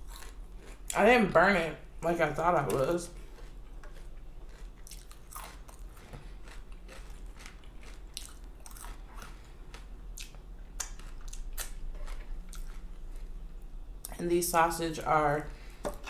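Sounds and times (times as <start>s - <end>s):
chewing crispy bacon: 0.0s - 14.2s.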